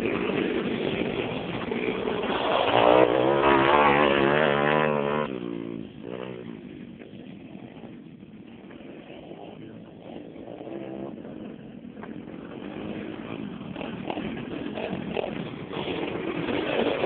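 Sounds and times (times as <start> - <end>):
pit bike engine revving: 0.0 - 6.9, 8.6 - 17.0.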